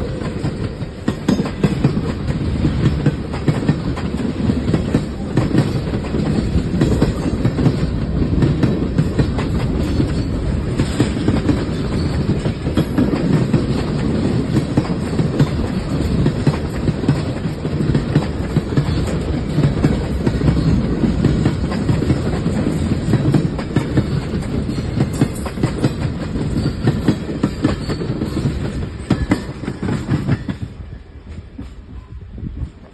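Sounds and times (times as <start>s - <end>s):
train cars rumbling: 0.0s - 32.9s
wheels clicking over rail joints: 0.1s - 30.8s.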